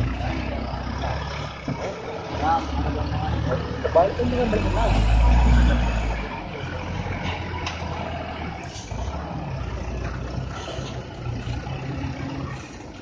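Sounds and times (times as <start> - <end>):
diesel truck engine labouring: 0.0 - 13.0.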